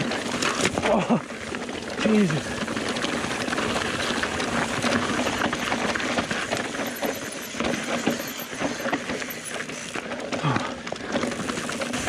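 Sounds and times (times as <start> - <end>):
bike knocking and rattling: 0.0 - 12.0
bike tyres crunching on stones: 0.0 - 12.0.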